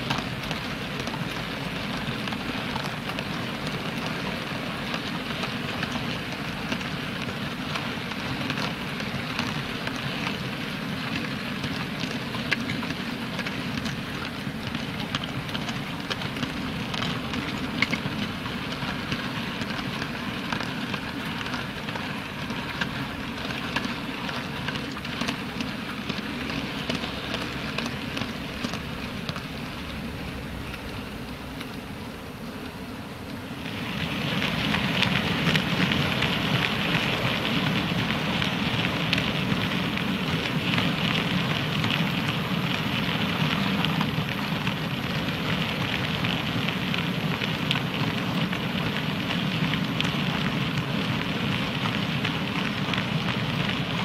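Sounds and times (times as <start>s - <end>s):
model train wheels on rails: 0.0s - 54.0s.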